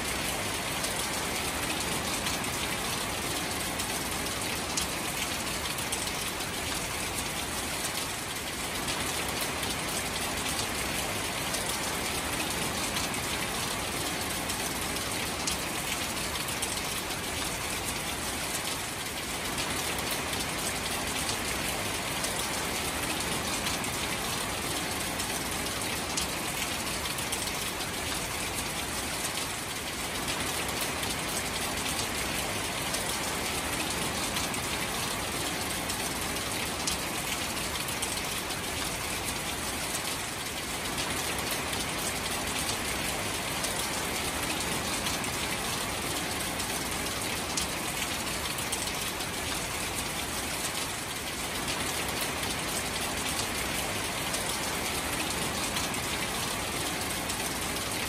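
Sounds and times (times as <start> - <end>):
rain splashing on shallow water: 0.0 - 58.0.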